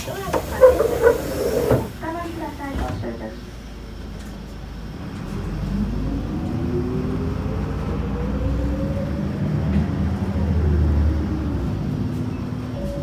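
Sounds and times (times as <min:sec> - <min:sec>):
bus engine and drivetrain whine: 0:00.0 - 0:13.0
low engine rumble: 0:00.0 - 0:13.0.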